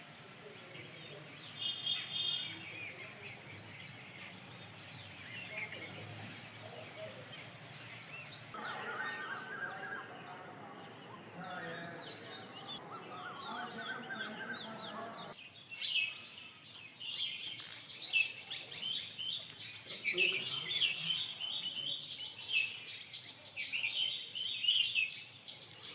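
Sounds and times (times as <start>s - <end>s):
birds singing and chirping: 0.0s - 25.9s.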